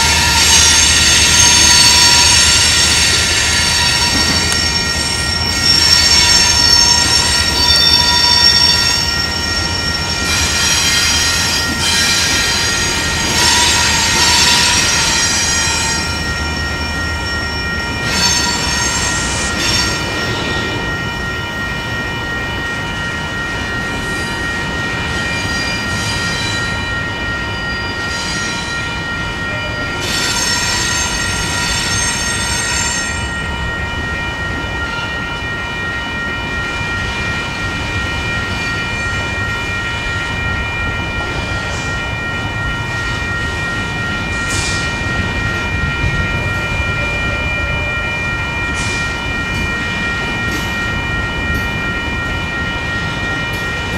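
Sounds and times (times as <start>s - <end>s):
freight train wheels rumbling on rails: 0.0s - 53.9s
high-pitched ringing tone: 0.0s - 53.9s.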